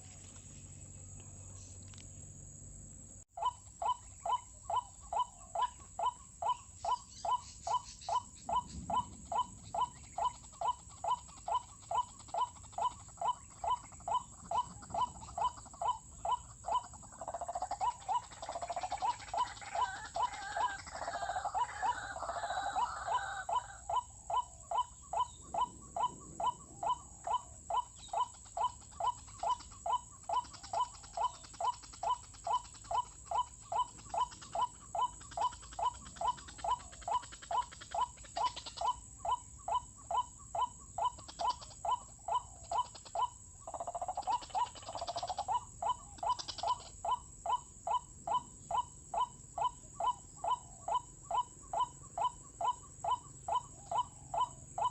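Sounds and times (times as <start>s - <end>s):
waterhen calling: 3.4s - 47.7s, 49.2s - 54.9s.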